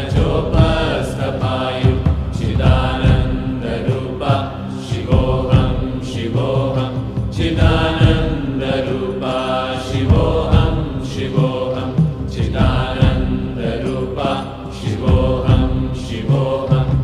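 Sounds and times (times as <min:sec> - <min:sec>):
low drum beats: 0:00.0 - 0:09.3, 0:09.9 - 0:14.2, 0:14.8 - 0:17.0
voices chanting: 0:00.0 - 0:17.0.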